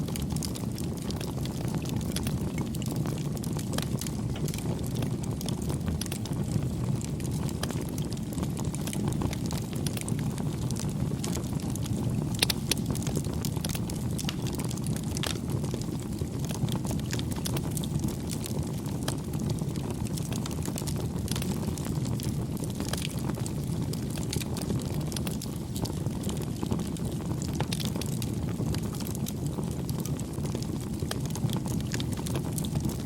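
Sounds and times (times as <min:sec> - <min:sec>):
wood crackling and popping: 0:00.0 - 0:33.0
flames rushing: 0:00.1 - 0:33.0.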